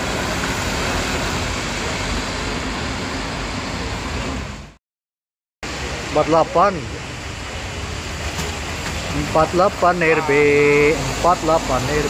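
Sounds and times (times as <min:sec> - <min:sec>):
bus engine rumble: 0:00.0 - 0:04.8, 0:05.6 - 0:12.0
rain and tyres on wet road: 0:00.0 - 0:04.8, 0:05.7 - 0:12.0.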